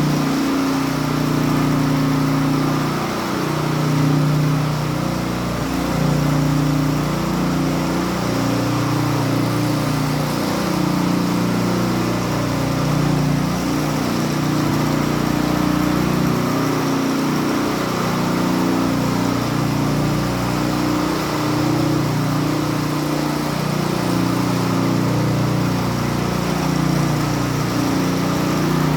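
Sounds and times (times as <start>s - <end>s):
power trowel engine running: 0.0s - 28.9s.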